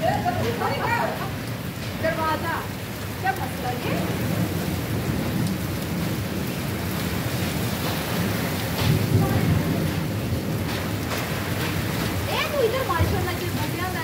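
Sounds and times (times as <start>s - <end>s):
heavy rain on paving: 0.0s - 14.0s.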